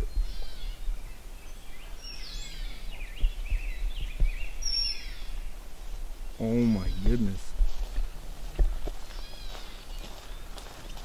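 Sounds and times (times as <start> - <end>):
wind rumble on microphone: 0.0 - 9.0
birds calling: 0.0 - 11.0.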